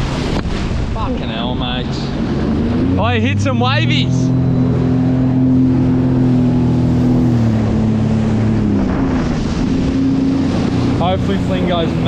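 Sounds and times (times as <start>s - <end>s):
jet ski engine droning: 0.0s - 12.0s
wind and water rushing: 0.0s - 12.0s.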